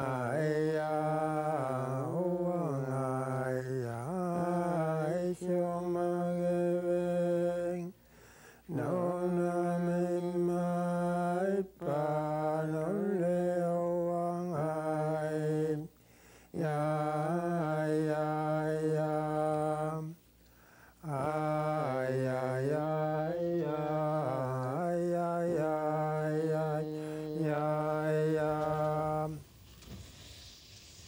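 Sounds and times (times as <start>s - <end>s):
person singing unaccompanied: 0.0s - 8.0s, 8.7s - 20.2s, 21.0s - 29.5s.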